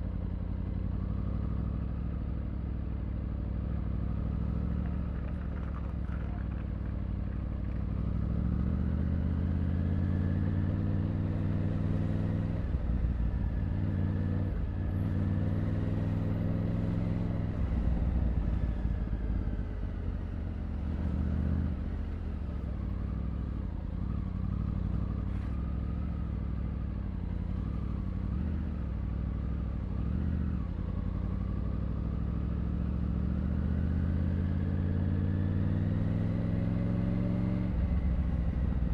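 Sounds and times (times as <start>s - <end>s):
motorcycle engine accelerating: 3.5s - 38.9s.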